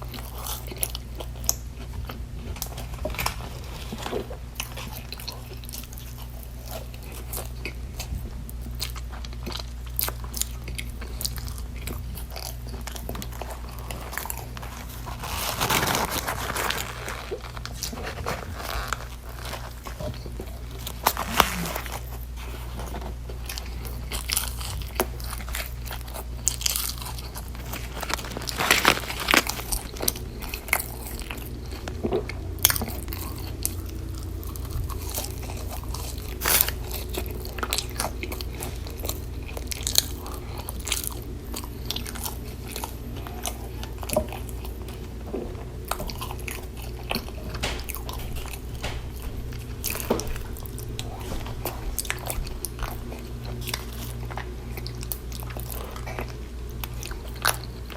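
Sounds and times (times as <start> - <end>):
person biting and chewing food: 0.0 - 57.9
steady low hum: 0.0 - 57.9.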